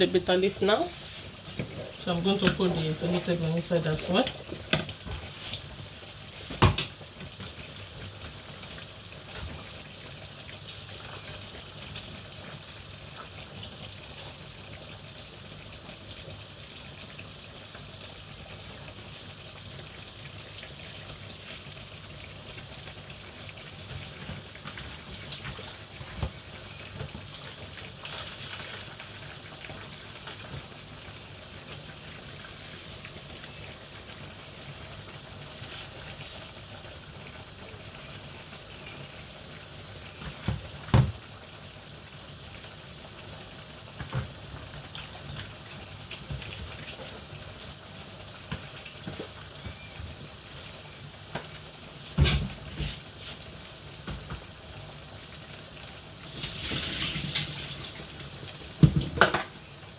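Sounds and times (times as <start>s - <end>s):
pots hissing on gas hob: 0.0s - 59.9s.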